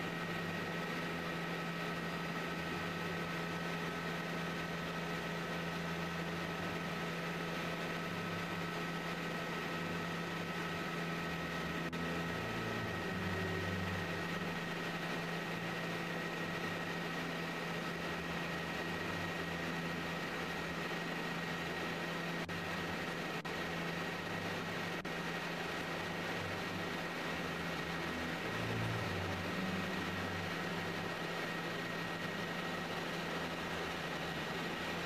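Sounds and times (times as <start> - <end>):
helicopter engine and rotor drone: 0.0 - 35.0
high whine: 0.0 - 35.0.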